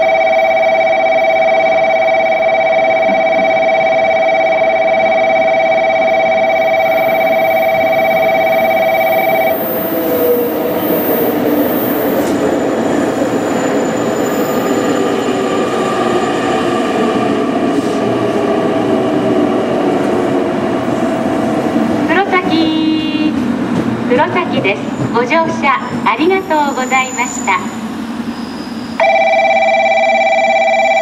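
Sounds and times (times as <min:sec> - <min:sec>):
train running into platform: 0:00.0 - 0:31.0.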